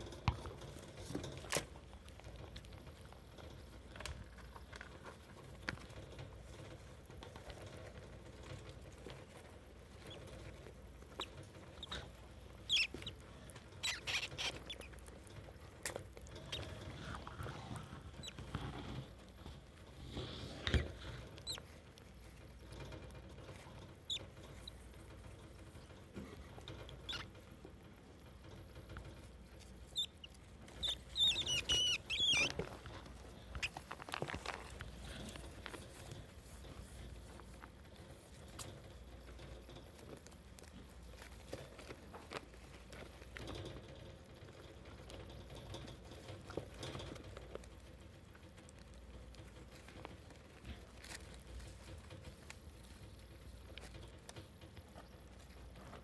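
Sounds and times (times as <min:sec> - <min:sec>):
rats rustling in paper bedding: 0:00.0 - 0:56.0
rats squeaking: 0:00.0 - 0:56.0.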